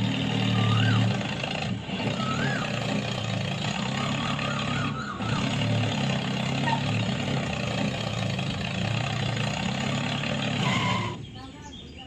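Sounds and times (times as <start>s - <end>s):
tractor engine running: 0.0s - 11.6s.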